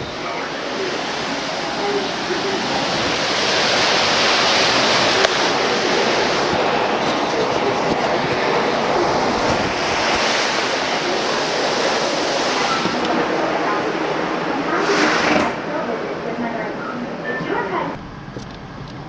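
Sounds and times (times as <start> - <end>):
strong wind rushing: 0.0 - 16.8.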